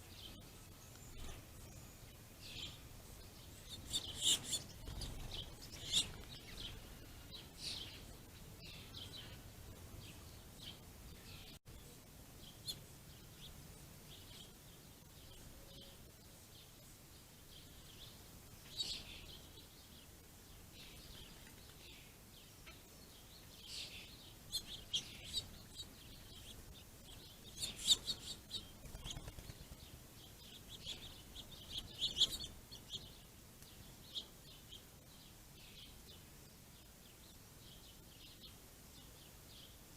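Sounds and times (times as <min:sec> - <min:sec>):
faint background noise: 0:00.0 - 0:39.9
songbirds chirping: 0:00.0 - 0:39.9.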